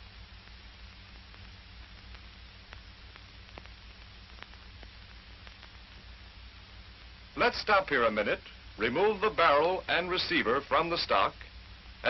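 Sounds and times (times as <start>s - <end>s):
faint crackles: 0.0s - 12.0s
film soundtrack hiss and hum: 0.0s - 12.0s.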